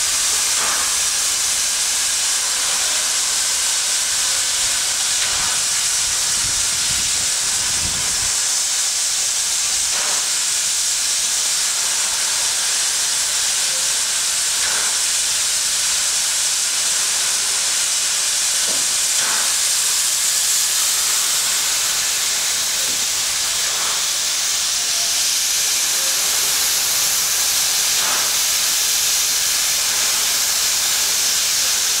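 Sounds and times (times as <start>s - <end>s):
steam hissing from locomotive: 0.0s - 32.0s.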